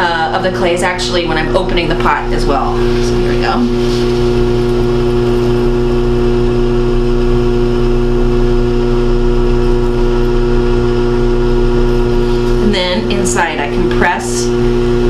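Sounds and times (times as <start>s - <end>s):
pottery wheel motor humming: 0.0s - 15.0s.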